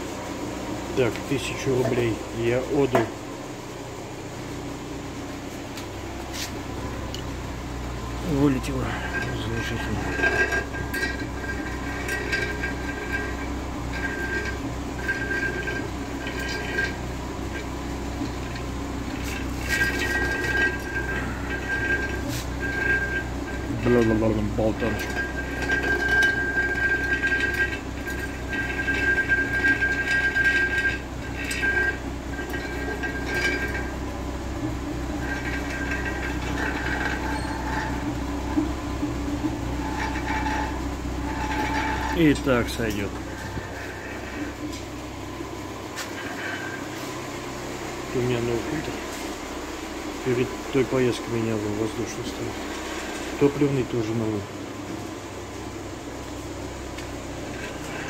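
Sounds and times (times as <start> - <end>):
car engine idling: 0.0 - 58.0
thin high whine: 5.4 - 58.0.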